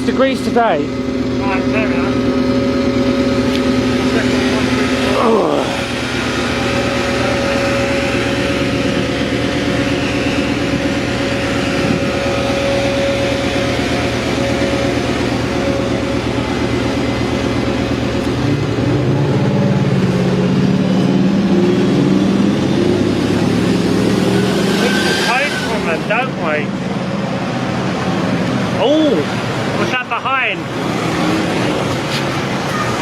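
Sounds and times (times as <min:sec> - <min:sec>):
bus diesel engine running: 0:00.0 - 0:33.0.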